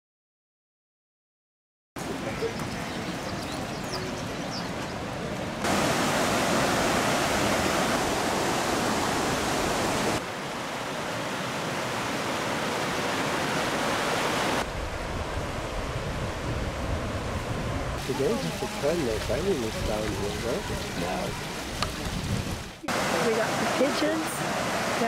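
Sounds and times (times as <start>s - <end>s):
river rushing over rocks: 2.1s - 25.0s.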